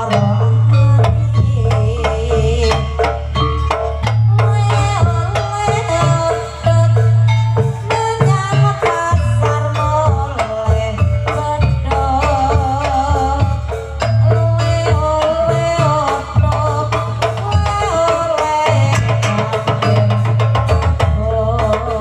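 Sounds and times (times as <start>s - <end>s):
wavering melodic line: 0.0s - 20.5s
gamelan percussion stepped notes: 0.0s - 22.0s
hand drums beating rhythm: 0.0s - 22.0s.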